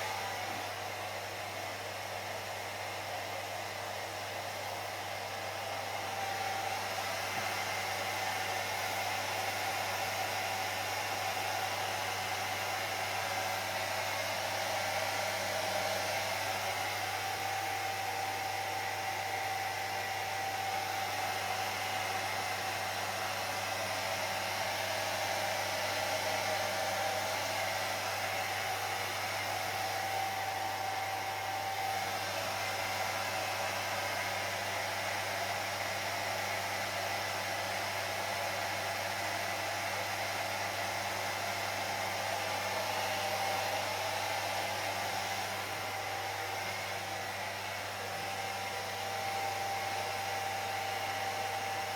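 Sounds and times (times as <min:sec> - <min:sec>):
hair dryer running: 0:00.0 - 0:51.9.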